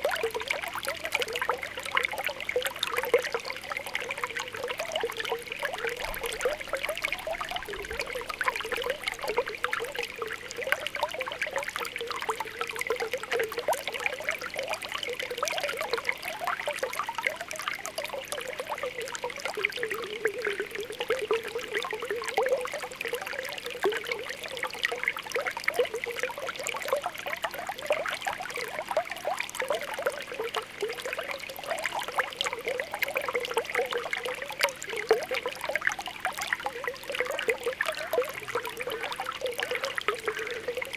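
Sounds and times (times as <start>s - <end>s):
spring water bubbling: 0.0s - 40.9s
water trickling: 0.0s - 40.9s.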